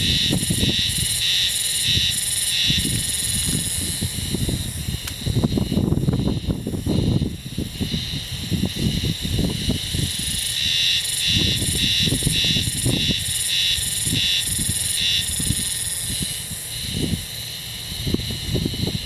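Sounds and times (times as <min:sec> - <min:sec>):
cicada buzzing: 0:00.0 - 0:19.0.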